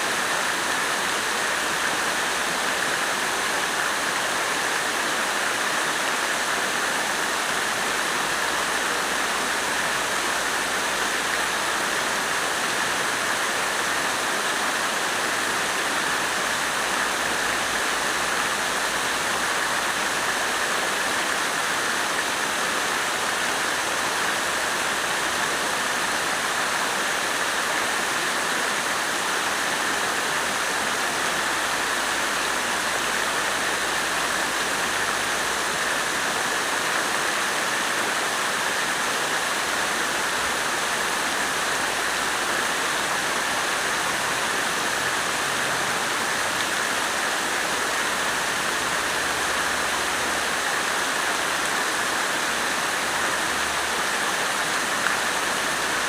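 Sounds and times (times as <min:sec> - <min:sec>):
water fountain splashing: 0:00.0 - 0:56.0.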